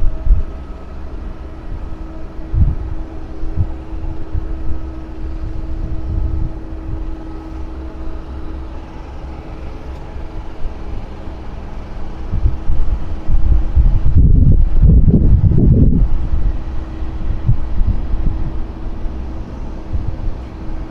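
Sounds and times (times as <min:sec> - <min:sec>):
steady mechanical hum: 0:00.0 - 0:20.9
wind buffeting microphone: 0:00.0 - 0:20.9.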